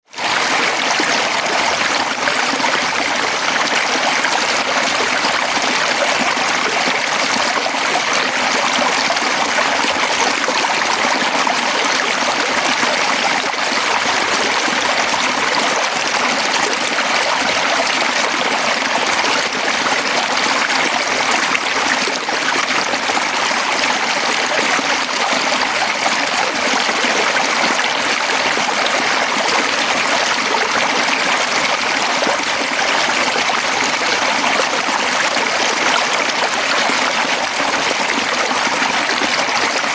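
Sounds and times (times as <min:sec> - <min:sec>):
stream rushing over rocks: 0:00.1 - 0:39.9.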